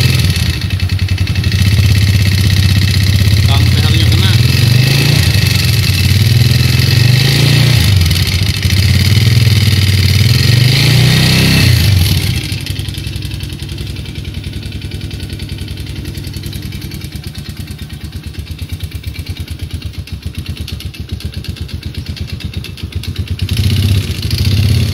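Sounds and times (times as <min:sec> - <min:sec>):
motorcycle engine revving and knocking: 0:00.0 - 0:24.9.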